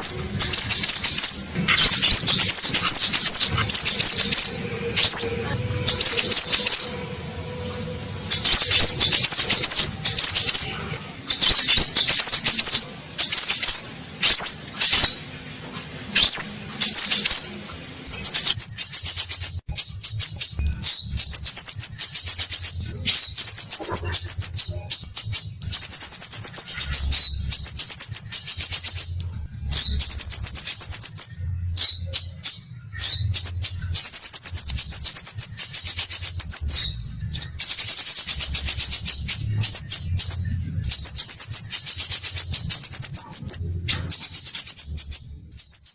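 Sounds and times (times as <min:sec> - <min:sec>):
bird chirping rapidly: 0:00.0 - 0:07.3, 0:08.3 - 0:15.4, 0:16.2 - 0:45.9.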